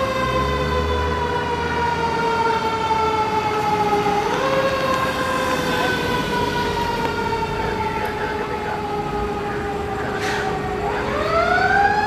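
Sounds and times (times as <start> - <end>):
fire engine siren wail: 0.0 - 12.0.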